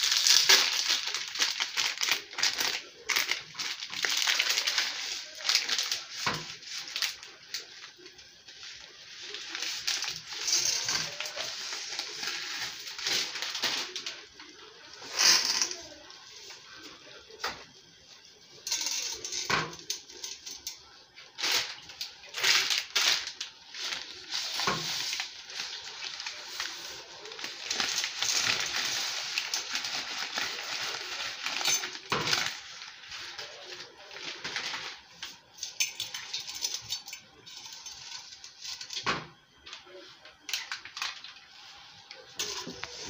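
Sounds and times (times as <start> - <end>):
boiling water hiss: 0.0 - 18.7, 19.4 - 43.0.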